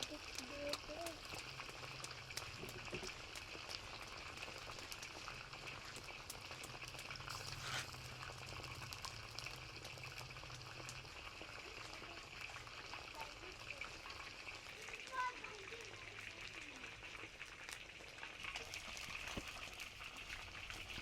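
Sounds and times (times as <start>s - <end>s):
food bubbling and sizzling in pot: 0.0s - 21.0s.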